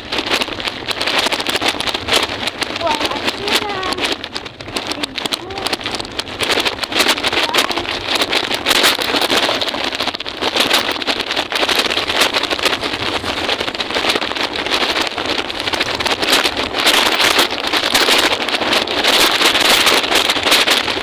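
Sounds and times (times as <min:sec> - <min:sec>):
wheels rattling over rough pavement: 0:00.0 - 0:21.0
wind buffeting microphone: 0:00.0 - 0:21.0.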